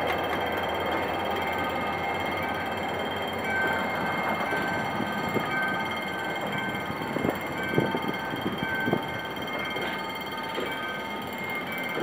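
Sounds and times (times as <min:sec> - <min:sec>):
train rail rumble: 0:00.0 - 0:12.0
high warning tone: 0:00.5 - 0:12.0.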